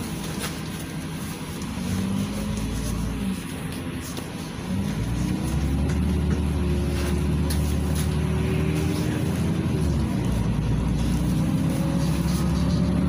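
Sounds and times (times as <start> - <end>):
bus engine low drone: 0.0 - 13.0
road noise: 0.0 - 13.0.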